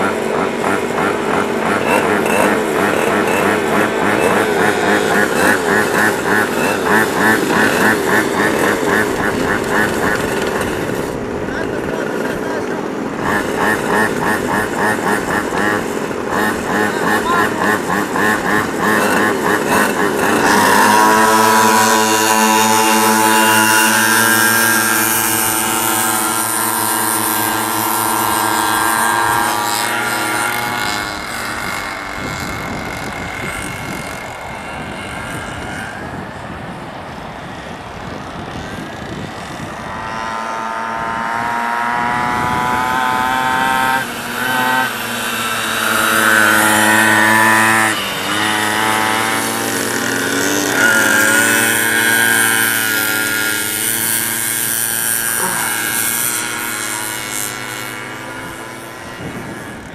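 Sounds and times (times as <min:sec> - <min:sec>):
small two-stroke engines revving: 0:00.0 - 0:59.9.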